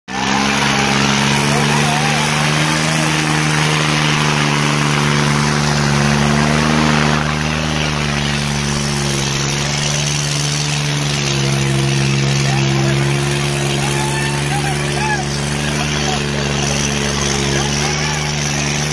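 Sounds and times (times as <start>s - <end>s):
tractor diesel engine under load: 0.0s - 18.9s.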